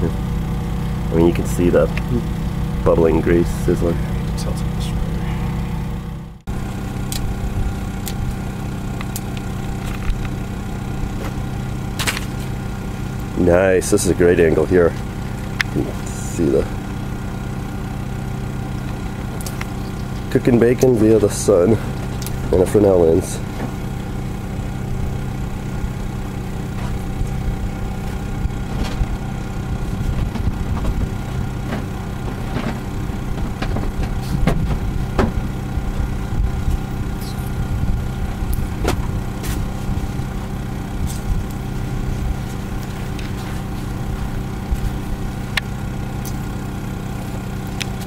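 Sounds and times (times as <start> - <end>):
steady engine-like hum: 0.0 - 48.0.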